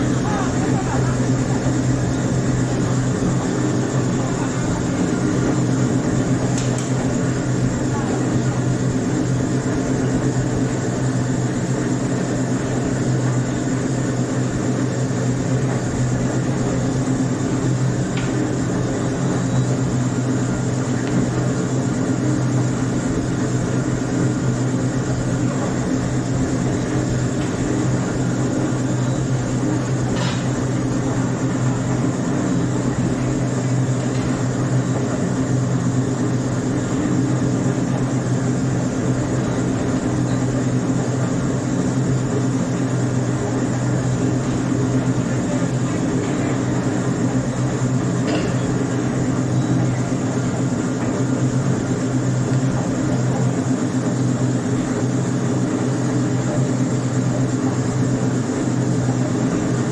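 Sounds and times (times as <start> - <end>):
mechanical drone with low hum: 0.0 - 59.9.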